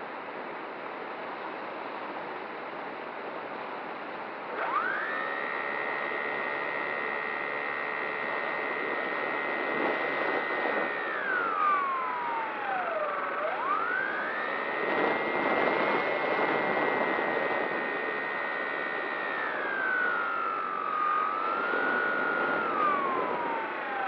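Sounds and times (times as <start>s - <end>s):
model plane motor whining: 4.4s - 24.0s.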